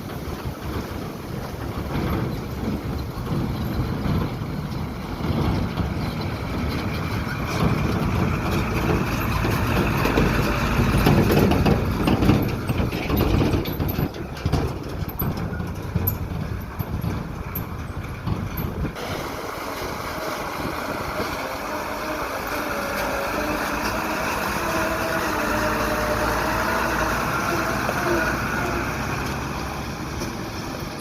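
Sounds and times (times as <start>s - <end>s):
diesel truck engine under load: 0.0s - 31.0s.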